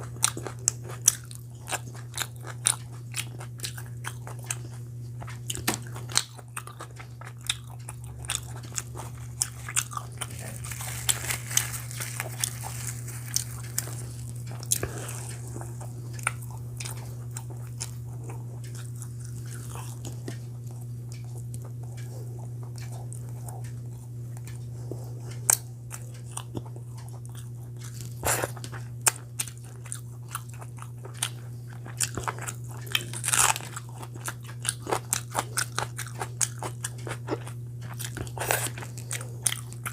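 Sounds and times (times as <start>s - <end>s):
person biting and chewing: 0.0s - 39.9s.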